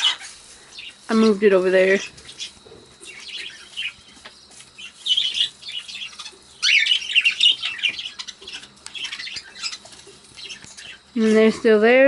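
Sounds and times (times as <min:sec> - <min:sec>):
budgerigars chirping and warbling: 0:00.0 - 0:11.8.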